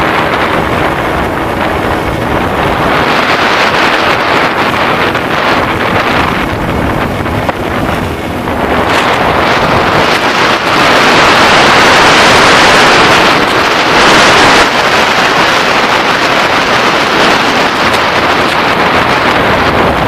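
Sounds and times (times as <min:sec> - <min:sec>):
outboard motor running: 0:00.0 - 0:20.0
water rushing along boat hull: 0:00.0 - 0:20.0
wind over microphone: 0:00.0 - 0:20.0.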